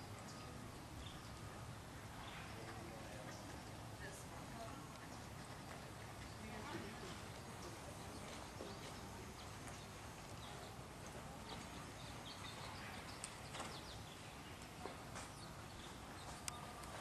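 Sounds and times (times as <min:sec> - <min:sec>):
background hiss: 0:00.0 - 0:17.0
faint horse hoofbeats trotting: 0:00.0 - 0:17.0.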